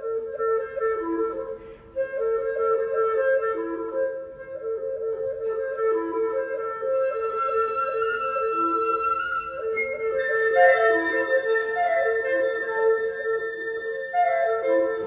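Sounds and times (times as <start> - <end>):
flute and clarinets playing: 0.0 - 15.0.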